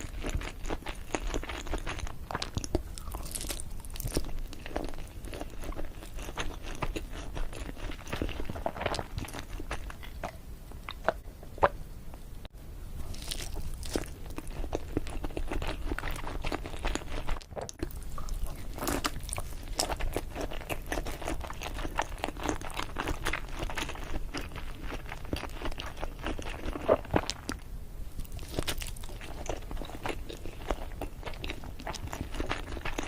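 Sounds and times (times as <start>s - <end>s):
person chewing: 0.0s - 11.8s, 13.0s - 27.6s, 28.2s - 33.0s.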